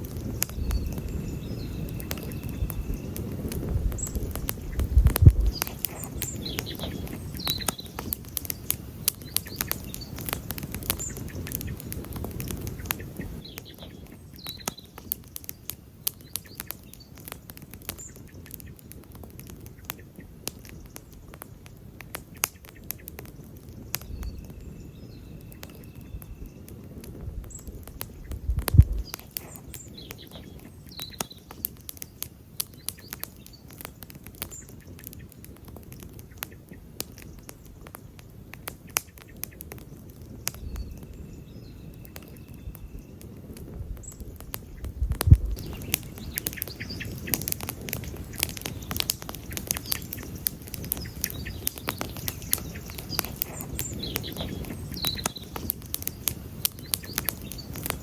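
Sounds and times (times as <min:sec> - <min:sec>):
campfire crackling: 0:00.0 - 0:58.0
fire pops: 0:00.0 - 0:58.0
low rumble of burning: 0:00.0 - 0:58.0.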